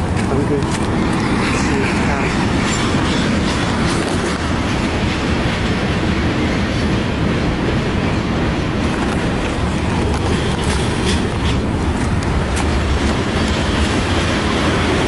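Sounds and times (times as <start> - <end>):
train rail cars rumbling past: 0.0 - 15.0
wheels clicking over rail joints: 0.0 - 15.0.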